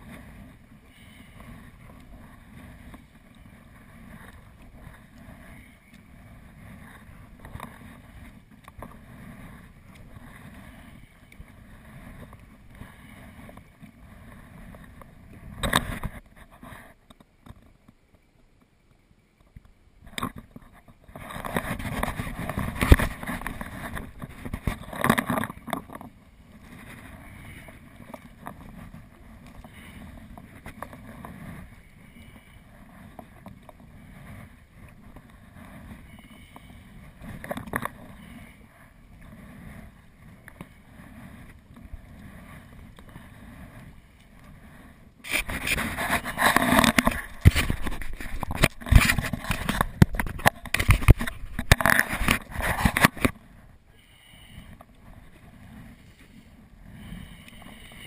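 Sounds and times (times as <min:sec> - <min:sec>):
wind rumble on microphone: 0:00.0 - 0:17.9, 0:19.6 - 0:53.8.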